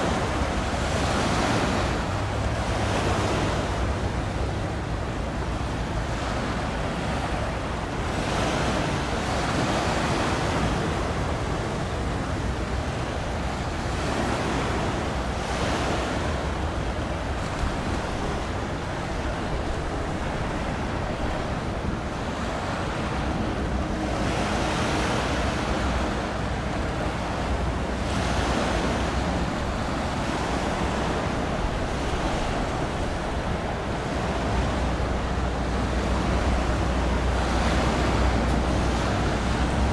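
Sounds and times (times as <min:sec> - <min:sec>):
sea water washing: 0:00.0 - 0:39.9
wind buffeting microphone: 0:00.0 - 0:39.9.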